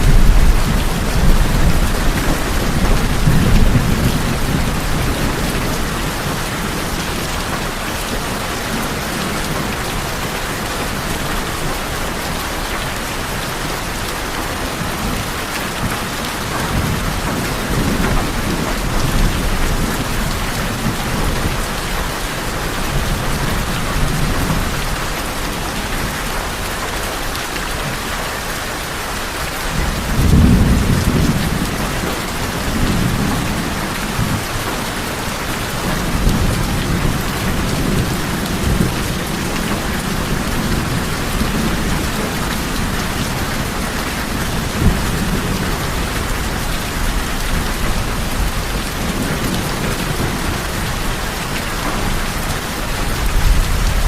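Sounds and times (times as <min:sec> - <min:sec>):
thunder rumbling: 0:00.0 - 0:26.6, 0:29.7 - 0:54.0
rain on a tin roof: 0:00.0 - 0:54.0.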